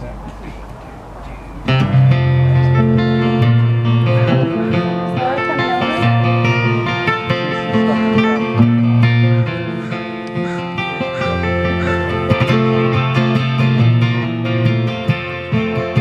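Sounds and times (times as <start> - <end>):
held low notes: 0.0 - 16.0
amplified electric guitar: 1.0 - 16.0
strummed acoustic guitar: 1.4 - 16.0.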